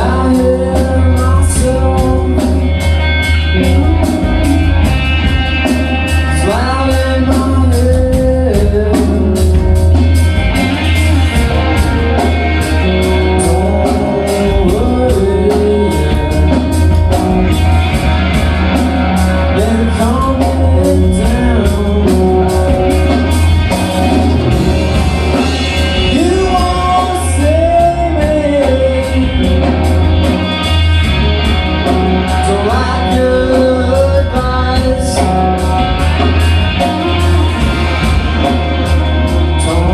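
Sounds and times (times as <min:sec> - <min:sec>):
person singing: 0:00.0 - 0:17.8, 0:18.7 - 0:30.5, 0:31.8 - 0:39.9
live rock band playing: 0:00.0 - 0:39.9
steady drumbeat: 0:00.0 - 0:39.9.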